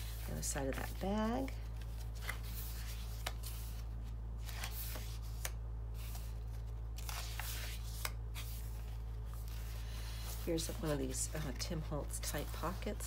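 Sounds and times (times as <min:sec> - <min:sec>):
paper pages rustling: 0:00.0 - 0:13.0
steady low hum: 0:00.0 - 0:13.0.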